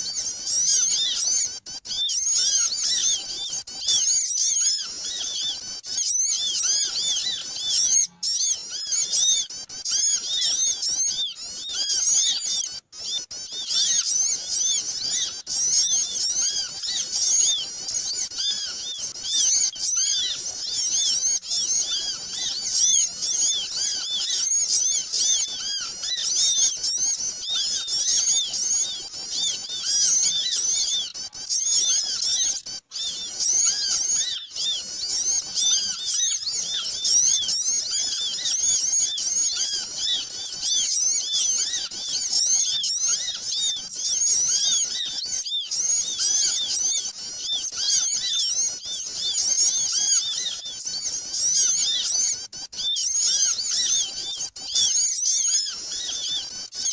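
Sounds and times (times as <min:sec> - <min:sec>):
flock of small birds chirping: 0:00.0 - 0:56.9.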